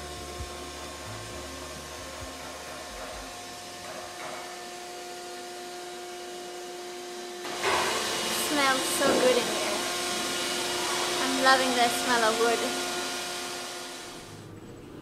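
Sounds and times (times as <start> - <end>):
mechanical whirring hum: 0.0 - 15.0.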